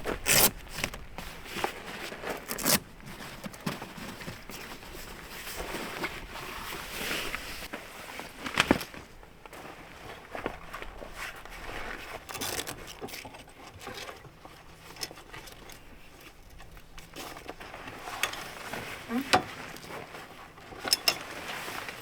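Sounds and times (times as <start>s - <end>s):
camping gear scraping and rustling: 0.0s - 22.0s.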